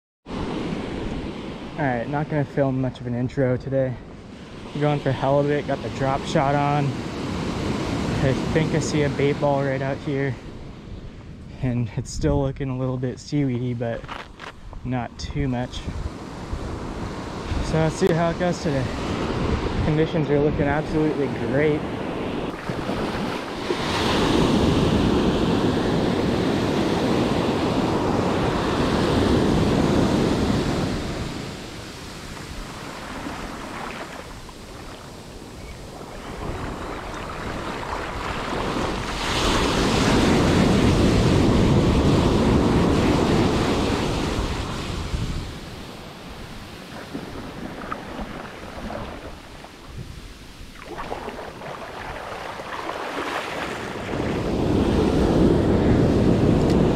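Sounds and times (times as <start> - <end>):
ocean surf breaking: 0.3 - 3.4, 4.0 - 10.8, 15.9 - 56.9
wind buffeting microphone: 5.7 - 56.9.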